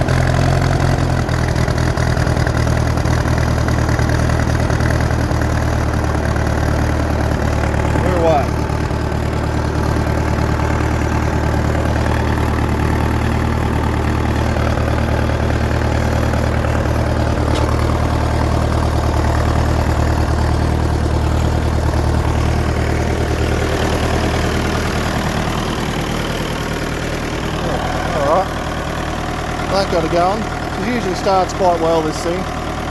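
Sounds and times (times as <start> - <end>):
tractor engine idling: 0.0 - 32.9.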